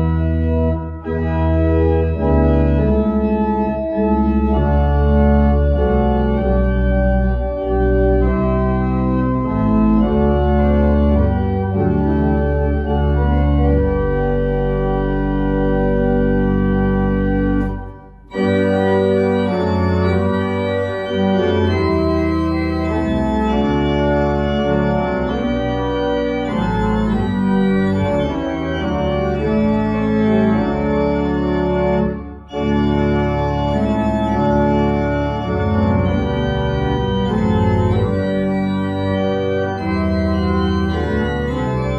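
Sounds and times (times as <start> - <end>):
pipe organ chords: 0.0 - 41.9.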